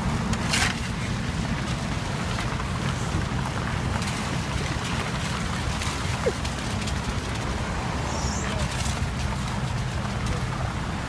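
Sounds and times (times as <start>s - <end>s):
traffic on a wet road: 0.0s - 11.0s.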